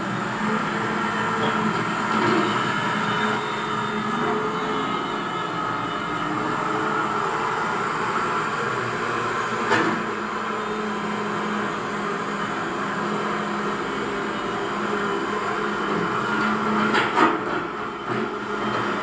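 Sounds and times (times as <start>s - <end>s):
model excavator motor whine: 0.0s - 19.0s.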